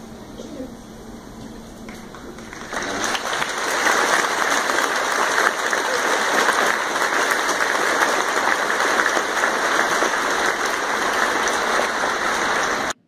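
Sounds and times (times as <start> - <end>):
large audience applauding: 2.4 - 13.0.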